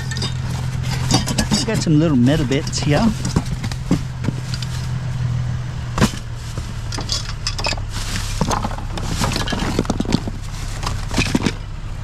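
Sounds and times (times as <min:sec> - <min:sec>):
scrap metal clinking: 0:00.0 - 0:05.0, 0:06.0 - 0:11.7
low engine hum: 0:00.0 - 0:12.0.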